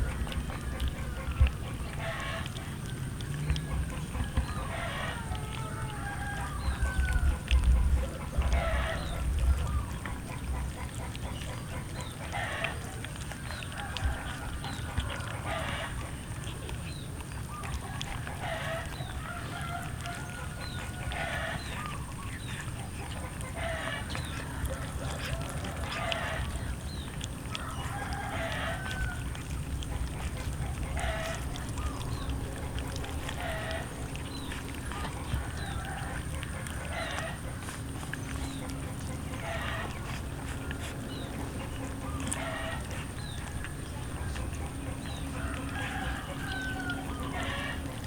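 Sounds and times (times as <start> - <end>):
chickens calling: 0.0 - 48.0.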